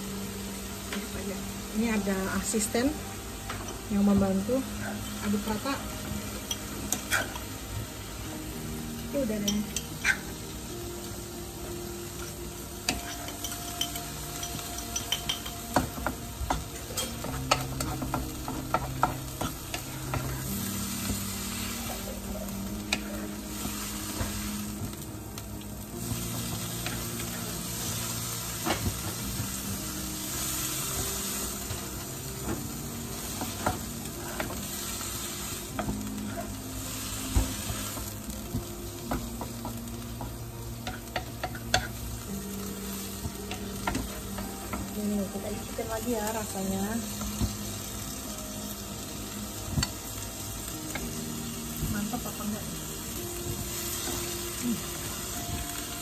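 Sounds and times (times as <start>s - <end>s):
bean sprouts sizzling in a wok: 0.0s - 56.0s.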